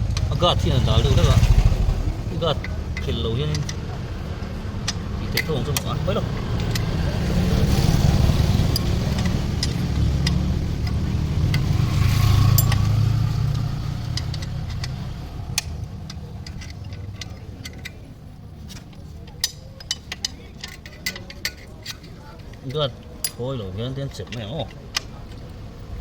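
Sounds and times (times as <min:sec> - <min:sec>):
vehicle engine rumbling: 0:00.0 - 0:26.0
hand tools clicking and tapping: 0:02.4 - 0:25.9.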